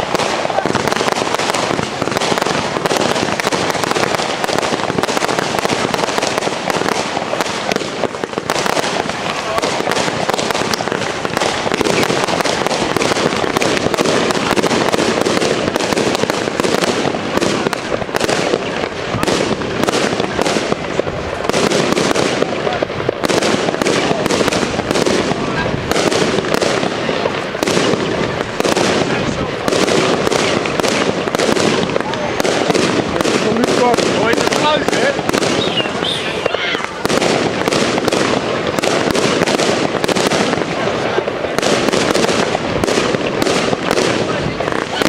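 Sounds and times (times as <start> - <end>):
fireworks bangs and crackles: 0.0 - 45.0
fireworks bursting in the sky: 0.0 - 45.0.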